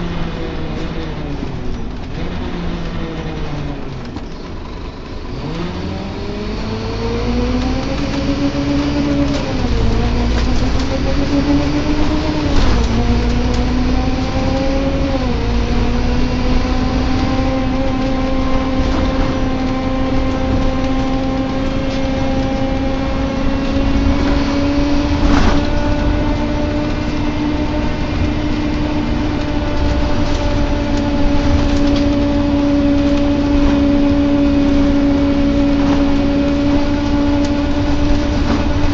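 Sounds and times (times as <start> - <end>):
bus engine groaning drone: 0.0 - 38.9.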